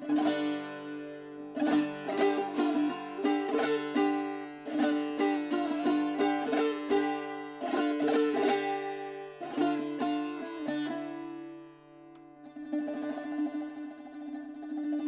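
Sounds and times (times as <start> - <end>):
lute strings droning: 0.0 - 15.0
plucked lute notes: 0.0 - 15.0.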